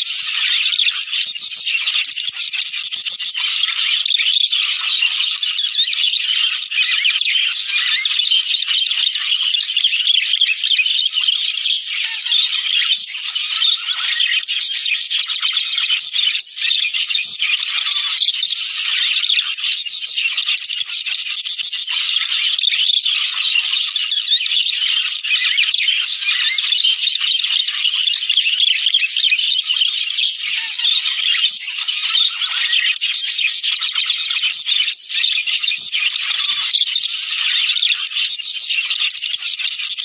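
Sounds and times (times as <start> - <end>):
budgerigars chattering: 0.0 - 40.0.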